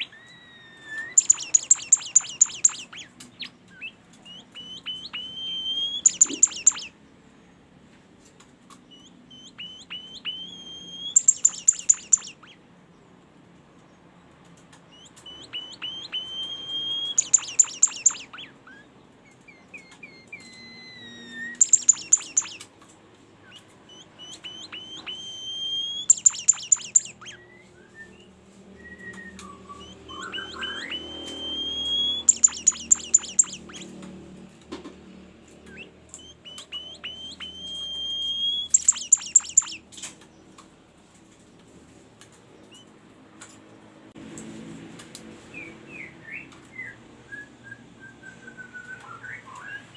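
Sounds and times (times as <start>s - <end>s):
songbird chirping song: 0.0s - 44.1s.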